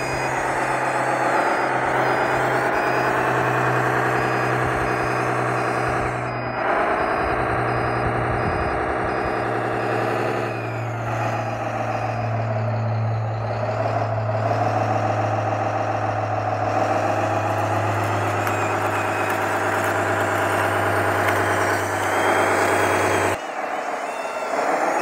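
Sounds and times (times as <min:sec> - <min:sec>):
electric hydraulic pump humming: 0:00.0 - 0:25.0.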